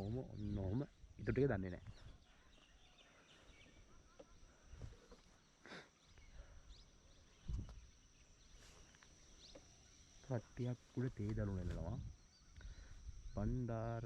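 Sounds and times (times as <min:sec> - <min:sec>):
faint bird chirps: 0:00.0 - 0:14.0
faint high insect drone: 0:00.0 - 0:14.0.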